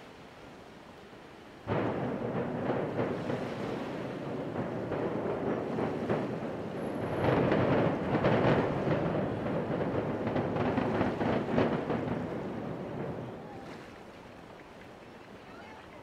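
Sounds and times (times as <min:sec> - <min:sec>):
building collapse rumble: 0:01.6 - 0:14.6.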